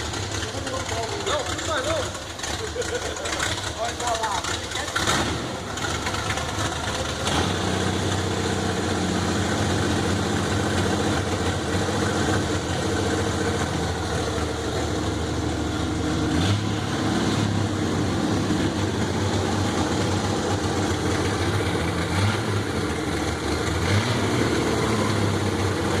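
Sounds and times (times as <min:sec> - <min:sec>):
car engine idling: 0:00.0 - 0:26.0
car engine revving: 0:00.0 - 0:26.0.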